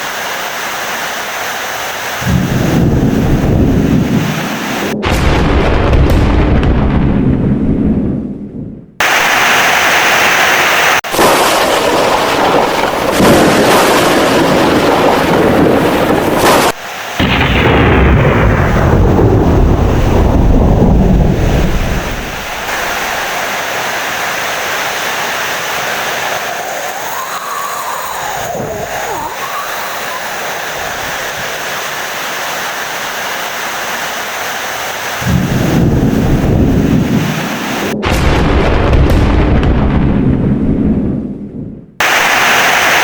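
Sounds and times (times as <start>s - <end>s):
heavy rain: 0.0s - 5.2s, 9.0s - 38.2s, 42.0s - 43.0s
rolling thunder: 2.2s - 9.5s, 11.0s - 31.5s, 35.2s - 42.4s.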